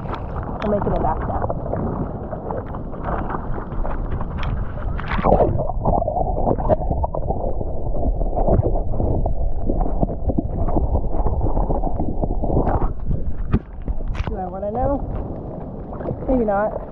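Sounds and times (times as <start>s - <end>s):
muffled water sloshing and splashing: 0.0s - 16.9s.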